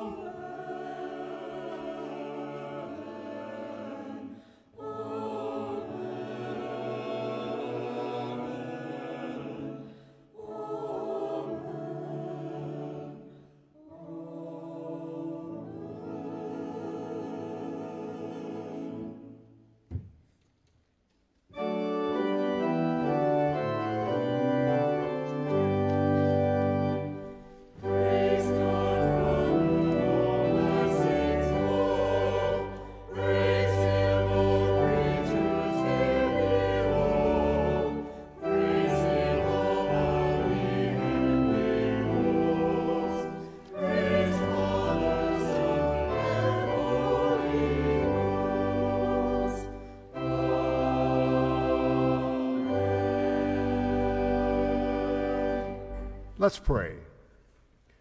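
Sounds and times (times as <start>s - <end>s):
pipe organ: 0.0s - 13.3s, 13.9s - 20.1s, 21.5s - 57.1s
choir singing a hymn: 0.0s - 20.0s, 21.5s - 56.3s.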